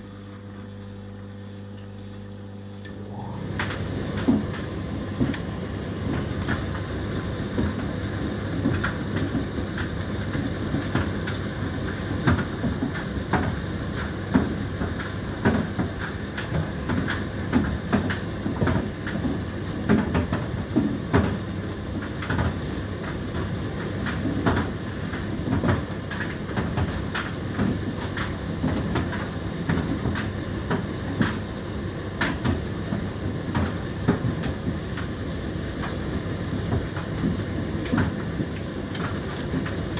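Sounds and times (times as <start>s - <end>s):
tumble dryer motor hum: 0.0s - 39.9s.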